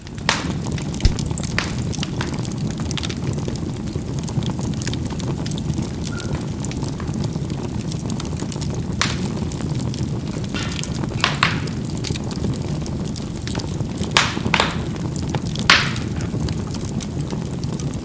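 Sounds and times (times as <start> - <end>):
charcoal fire rumbling: 0.0 - 18.0
fire crackling and popping: 0.0 - 18.0.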